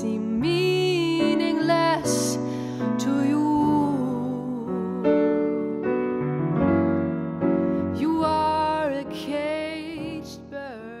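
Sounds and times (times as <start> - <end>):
jazz piano chords: 0.0 - 11.0.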